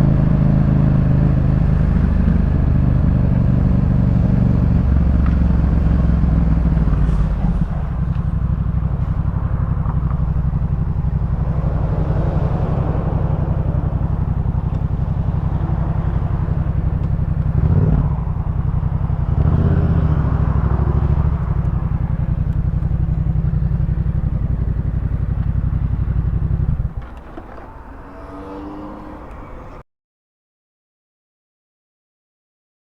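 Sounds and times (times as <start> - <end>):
motorcycle engine running: 0.0 - 29.8.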